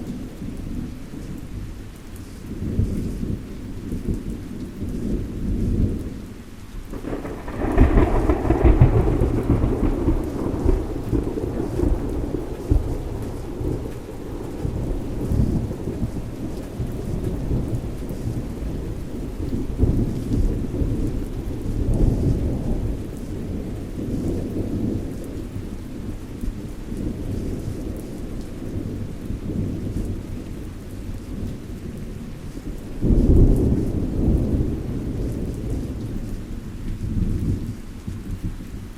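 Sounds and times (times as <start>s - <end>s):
steady rain: 0.0s - 38.9s
rolling thunder: 6.9s - 38.9s.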